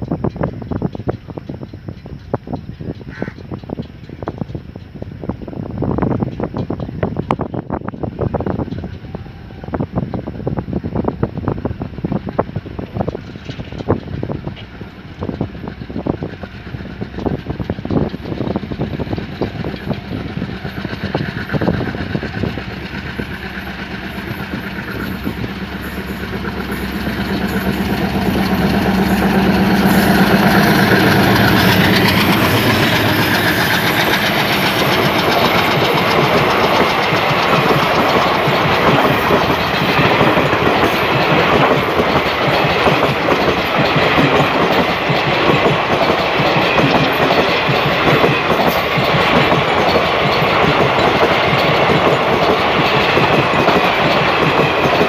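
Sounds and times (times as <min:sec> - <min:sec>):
diesel locomotive engine drone: 0:00.0 - 0:55.0
train wheels clattering over rail joints: 0:00.0 - 0:55.0.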